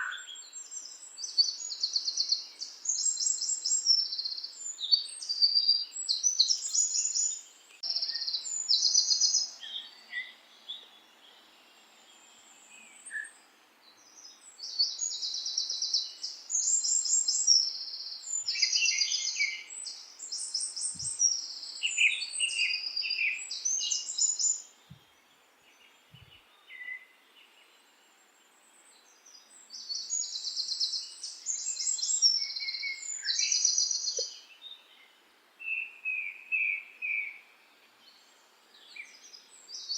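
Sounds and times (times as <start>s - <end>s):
songbirds trilling: 0.0s - 28.0s, 28.8s - 37.4s
faint steady hiss: 0.0s - 39.9s.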